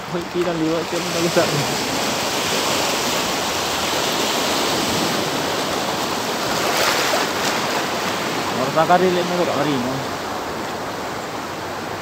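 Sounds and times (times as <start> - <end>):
choppy sea water splashing: 0.0 - 12.0.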